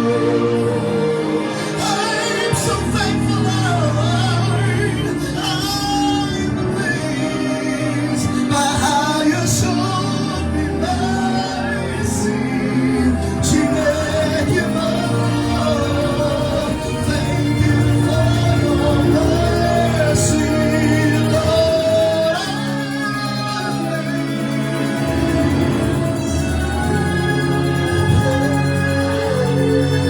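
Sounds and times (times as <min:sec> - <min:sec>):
person singing worship music: 0:00.0 - 0:30.0
sustained low accompaniment: 0:00.0 - 0:30.0.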